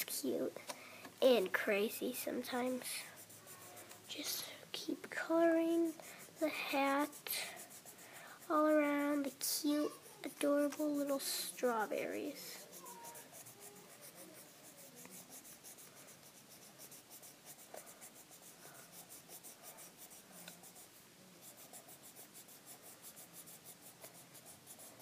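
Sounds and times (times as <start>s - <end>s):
pencil scratching on paper: 1.2s - 25.0s.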